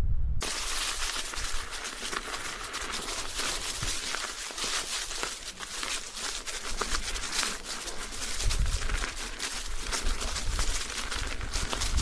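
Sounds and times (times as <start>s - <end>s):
crunching footsteps on trail: 0.4s - 12.0s
steady hiss: 0.4s - 12.0s.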